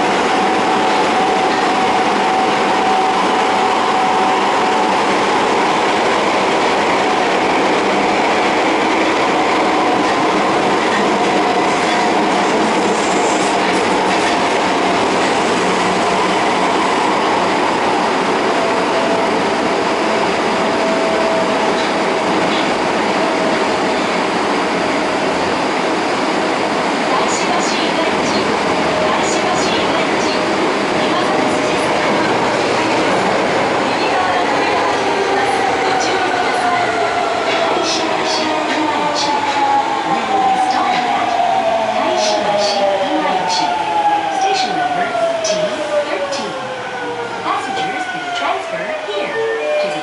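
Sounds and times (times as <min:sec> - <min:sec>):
subway train wheels rumbling on rail: 0:00.0 - 0:50.0.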